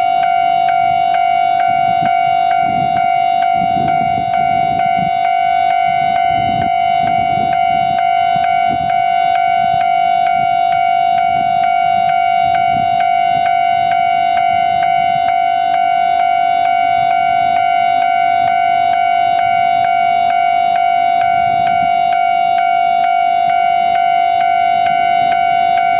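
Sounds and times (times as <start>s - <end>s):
level crossing alarm bell: 0.0s - 25.9s.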